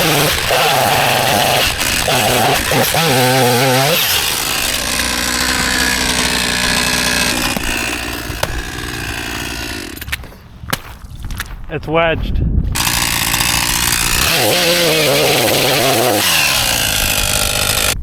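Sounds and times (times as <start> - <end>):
chainsaw cutting ice: 0.0 - 10.5, 12.8 - 18.0.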